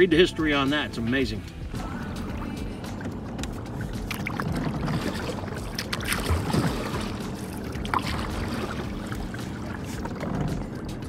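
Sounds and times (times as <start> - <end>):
water lapping against a kayak hull: 0.6 - 11.0.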